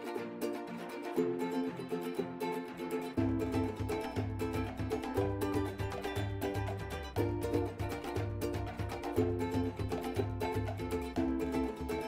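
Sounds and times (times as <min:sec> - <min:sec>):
plucked string tune: 0:00.0 - 0:12.0.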